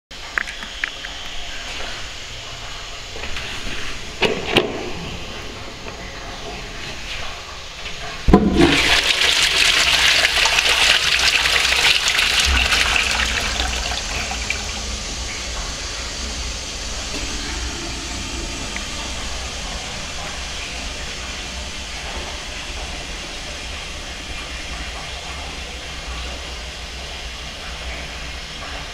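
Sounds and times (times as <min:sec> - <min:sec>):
toilet flushing: 0:00.6 - 0:28.9.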